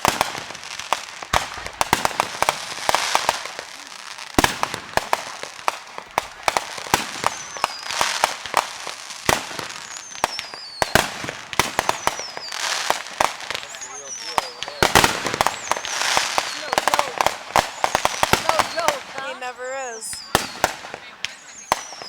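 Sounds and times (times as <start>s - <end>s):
fireworks banging and crackling: 0.0s - 22.0s
whistling fireworks: 0.0s - 22.0s.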